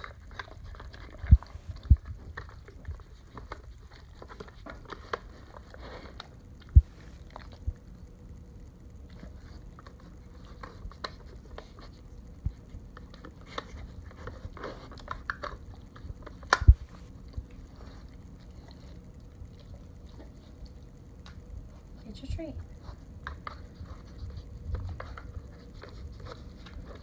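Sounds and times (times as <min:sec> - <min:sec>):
dog chewing treats: 0:00.0 - 0:08.2, 0:08.9 - 0:22.0, 0:22.6 - 0:27.0.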